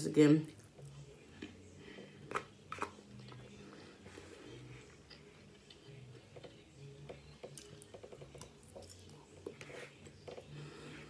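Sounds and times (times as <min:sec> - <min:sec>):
quiet chewing: 0:00.5 - 0:11.0.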